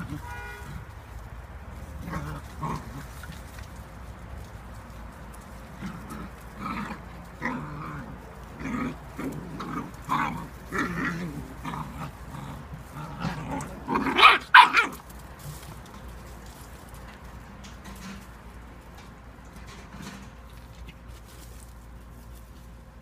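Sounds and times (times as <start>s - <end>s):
puppies growling and barking: 0.0s - 21.1s.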